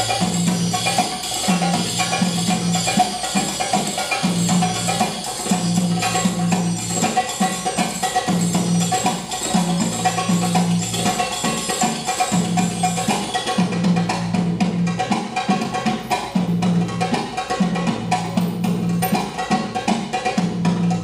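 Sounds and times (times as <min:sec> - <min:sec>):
hand drum solo: 0:00.0 - 0:21.0.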